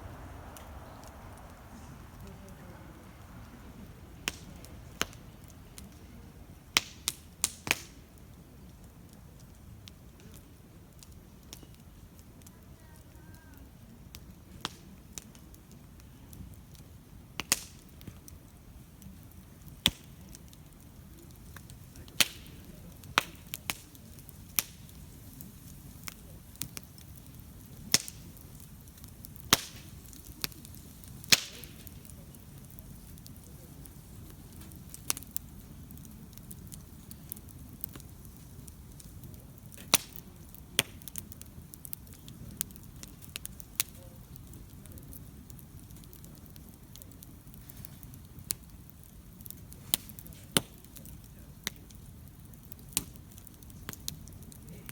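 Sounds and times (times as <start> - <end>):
campfire pops and snaps: 0.0 - 54.9
low rush of burning fire: 0.0 - 54.9.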